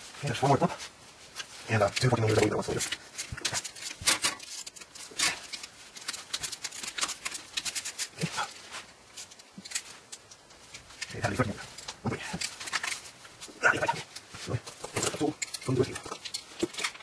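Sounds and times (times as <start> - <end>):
metal tools clicking and clinking: 1.8 - 8.5, 9.1 - 13.2, 14.0 - 17.0.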